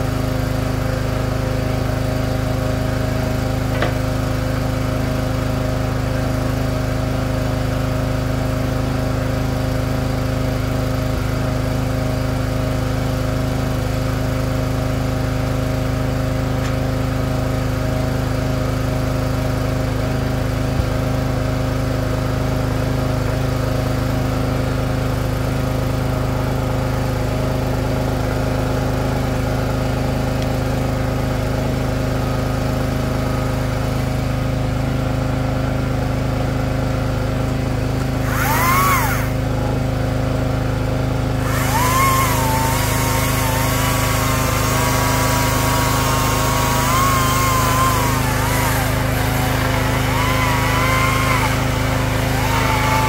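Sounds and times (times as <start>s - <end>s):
small gas engine running: 0.0s - 53.0s.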